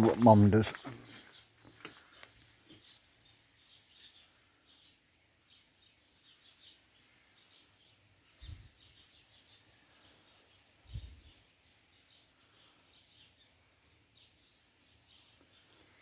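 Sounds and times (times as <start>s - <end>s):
fledgling bird chirping: 0.0s - 16.0s.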